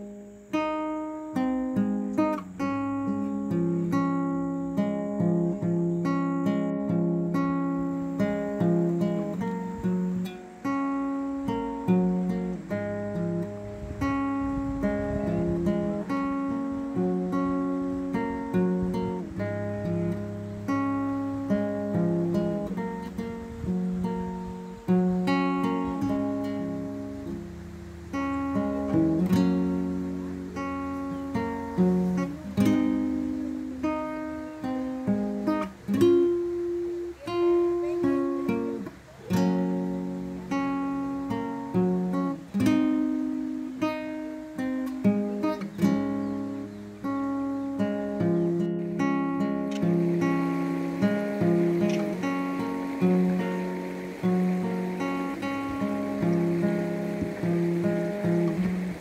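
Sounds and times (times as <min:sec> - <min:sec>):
acoustic guitar plucked notes: 0:00.0 - 0:59.0.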